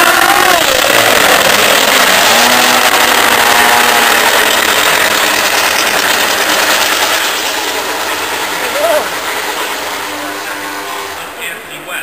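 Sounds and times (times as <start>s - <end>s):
loud rushing noise: 0.0s - 12.0s
racing motorcycle engine passing: 0.0s - 12.0s.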